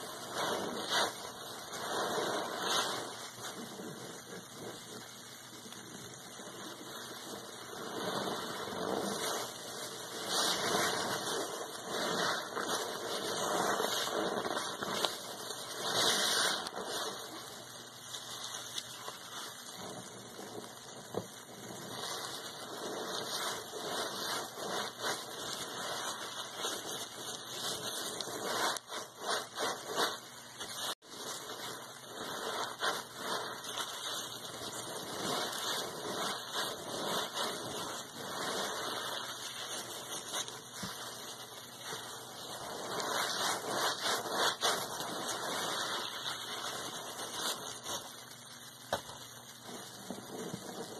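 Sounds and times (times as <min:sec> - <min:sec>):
wet sponge squelching: 0:00.0 - 0:50.9.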